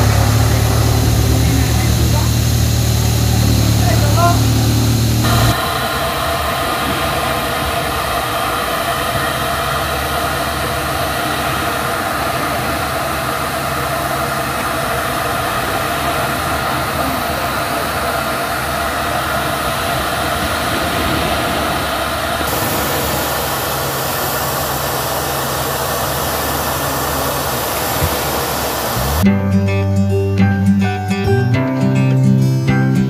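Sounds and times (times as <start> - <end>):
compressed air hissing through hose: 0.0 - 29.2
low engine hum: 0.0 - 29.3.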